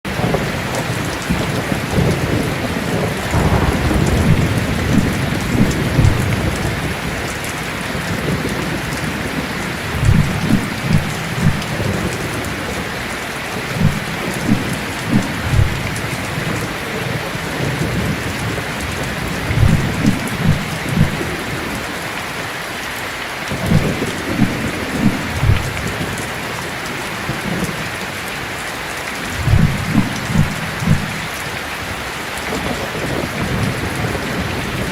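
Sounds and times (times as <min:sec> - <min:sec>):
heavy rain: 0:00.0 - 0:34.9
thunder rumbles: 0:00.1 - 0:22.0, 0:23.5 - 0:28.6, 0:29.2 - 0:34.9.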